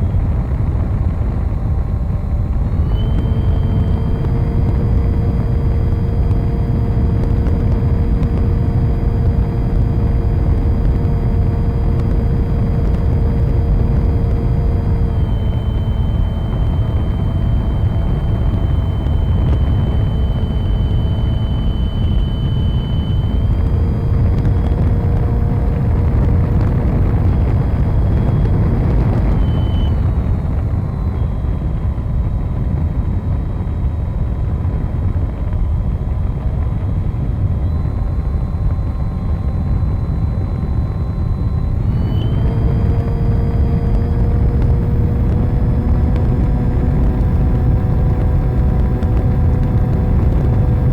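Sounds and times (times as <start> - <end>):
model plane motor whine: 0.0 - 50.9
wind rumble on microphone: 0.0 - 50.9.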